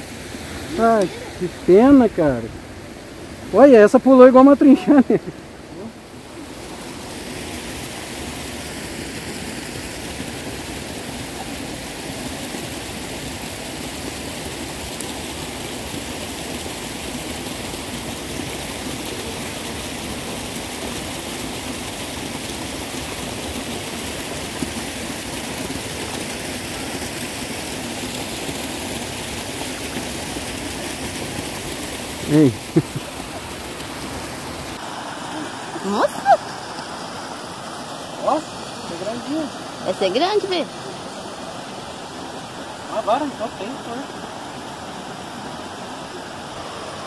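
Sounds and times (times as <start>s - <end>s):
running water rushing: 0.0s - 47.0s.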